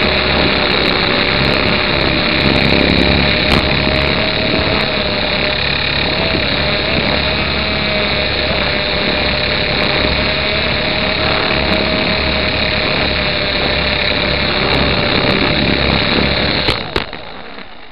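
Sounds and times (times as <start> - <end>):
electric motor whine: 0.0 - 17.9
rotors rushing: 0.0 - 17.9.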